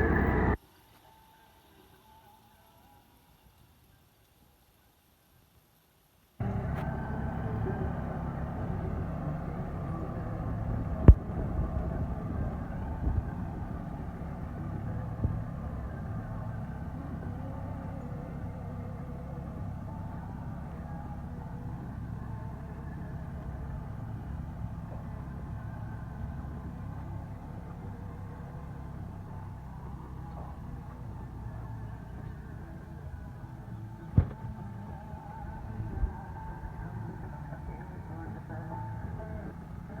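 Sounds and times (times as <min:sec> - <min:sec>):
tractor engine running: 0:00.0 - 0:00.6, 0:06.4 - 0:40.0.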